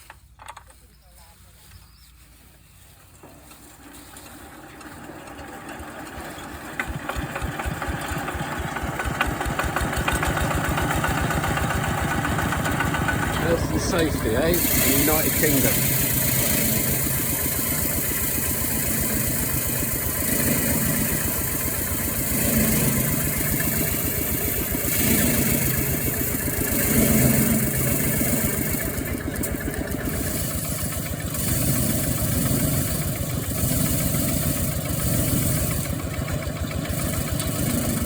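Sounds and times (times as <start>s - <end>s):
small engine running thresher: 3.2s - 38.0s.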